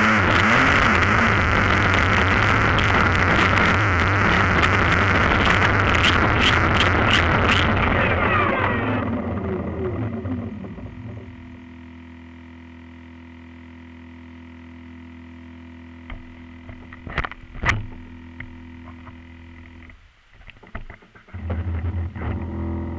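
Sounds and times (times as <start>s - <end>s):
low electrical hum: 0.6s - 22.9s.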